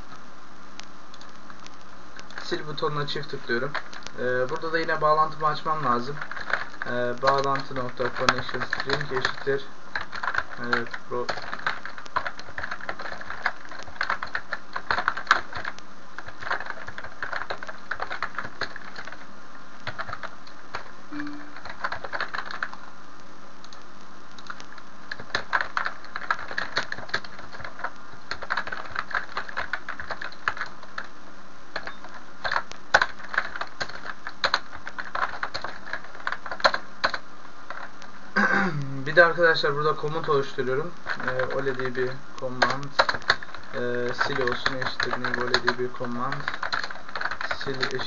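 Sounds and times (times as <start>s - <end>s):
steady background hiss: 0.0s - 48.0s
computer keyboard typing: 1.1s - 22.8s, 24.4s - 31.1s, 31.7s - 38.0s, 38.8s - 48.0s.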